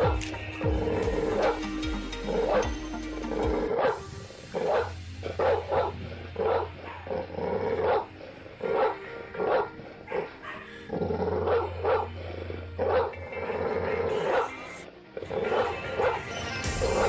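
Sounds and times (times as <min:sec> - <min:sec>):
background music with bass: 0:00.0 - 0:17.0
dog barking: 0:00.9 - 0:01.7, 0:02.3 - 0:02.8, 0:03.6 - 0:12.2, 0:12.8 - 0:17.0.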